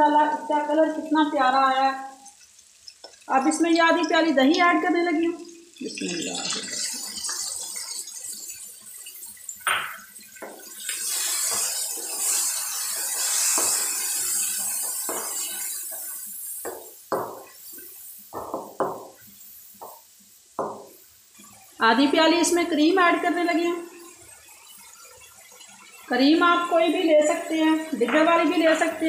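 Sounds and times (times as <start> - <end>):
yogurt sizzling in hot oil: 0.0 - 29.0.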